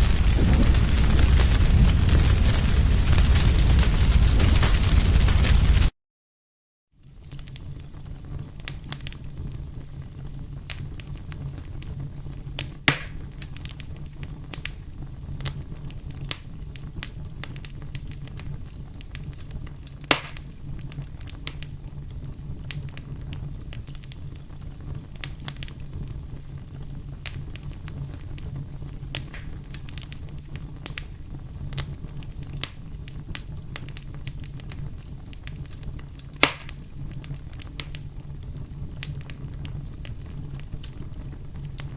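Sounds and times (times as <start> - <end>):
campfire flames rumbling: 0.0 - 5.9, 7.0 - 41.9
loud pops from burning wood: 0.0 - 5.9, 7.0 - 41.9
wood crackling: 0.0 - 5.9, 7.0 - 41.9.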